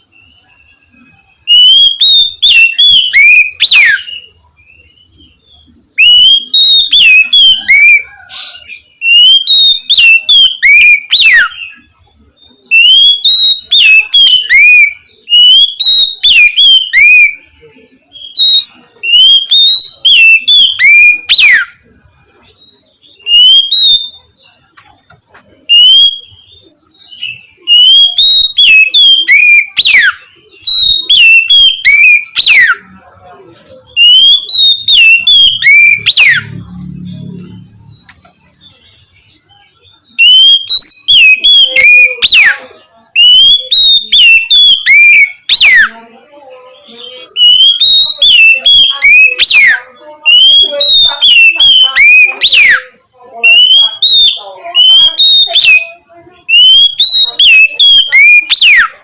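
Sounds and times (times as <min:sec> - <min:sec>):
bird singing whistled song: 0:00.0 - 0:22.0, 0:22.6 - 0:24.7, 0:25.7 - 0:59.0.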